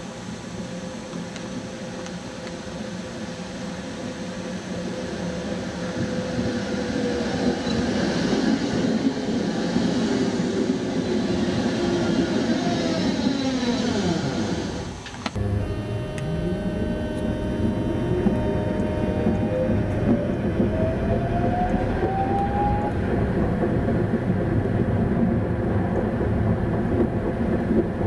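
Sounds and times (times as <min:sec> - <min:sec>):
tram running on rails: 0:00.0 - 0:28.0
tram motor whine: 0:00.4 - 0:28.0.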